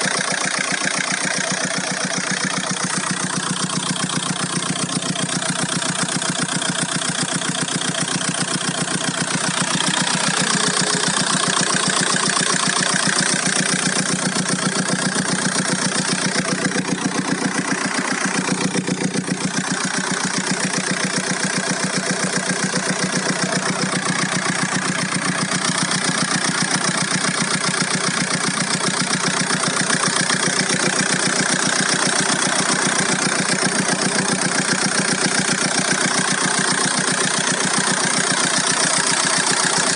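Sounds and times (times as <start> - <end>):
diesel engine idling: 0.0 - 39.9
strange engine noise: 0.0 - 39.9.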